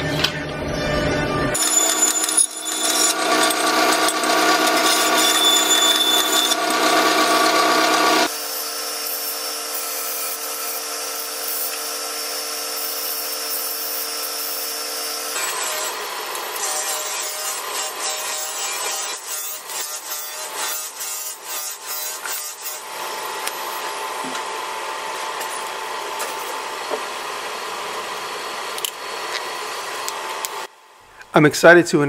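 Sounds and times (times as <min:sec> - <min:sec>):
belt grinder grinding steel: 0:01.5 - 0:30.7.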